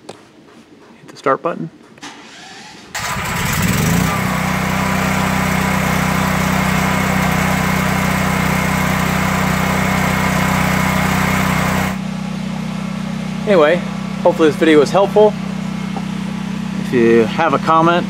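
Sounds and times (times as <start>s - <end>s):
generator engine starting and running: 2.0s - 18.0s.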